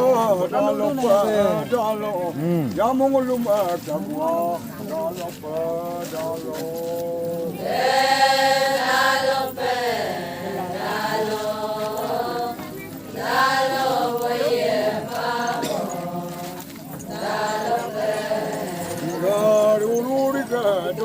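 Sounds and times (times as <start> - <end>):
voices chanting a song: 3.6 - 21.0.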